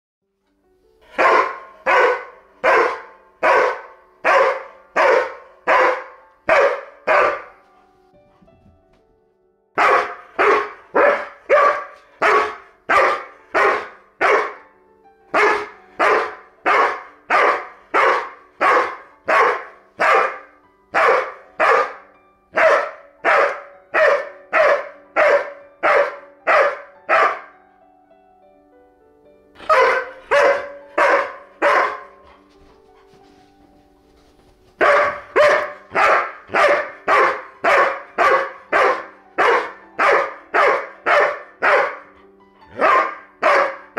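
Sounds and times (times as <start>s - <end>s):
dog barking: 1.1s - 7.6s, 9.8s - 14.7s, 15.3s - 27.5s, 29.6s - 32.5s, 34.8s - 43.9s.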